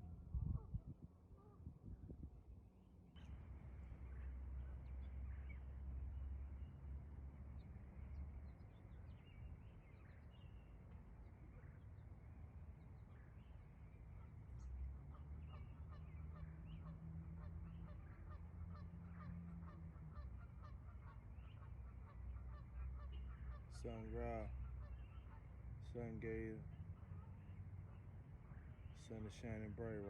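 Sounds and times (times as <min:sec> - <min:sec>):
low steady rumble: 0:00.0 - 0:30.0
geese honking: 0:03.2 - 0:11.8, 0:13.1 - 0:30.0.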